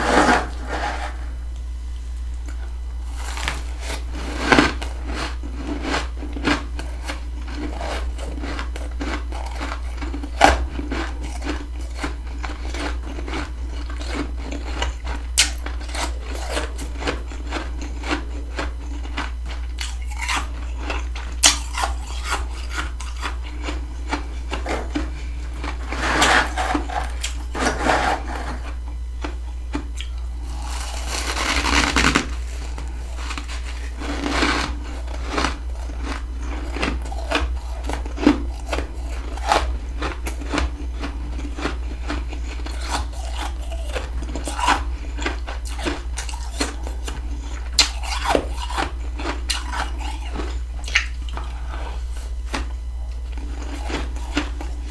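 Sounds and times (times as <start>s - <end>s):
crunching frost being eaten: 0.0s - 54.9s
steady low hum: 0.0s - 54.9s.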